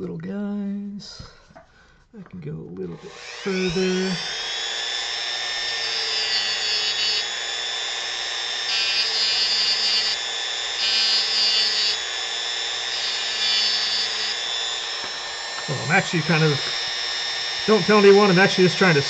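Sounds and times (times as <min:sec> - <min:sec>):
rotary tool carving wood: 0:02.9 - 0:19.0.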